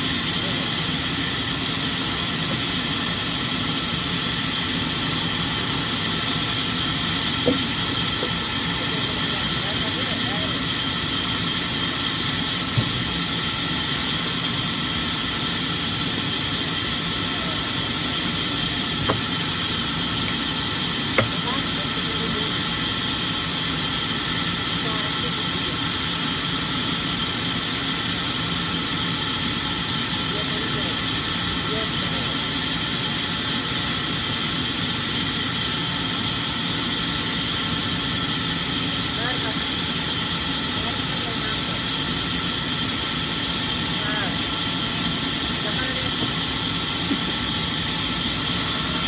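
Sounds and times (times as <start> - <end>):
sawmill machinery drone with whine: 0.0 - 49.0.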